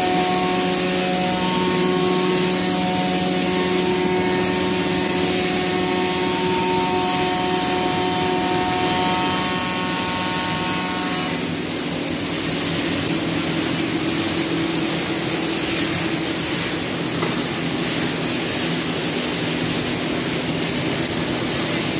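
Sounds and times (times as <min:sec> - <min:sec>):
water spray hiss: 0:00.0 - 0:10.6, 0:11.4 - 0:21.9.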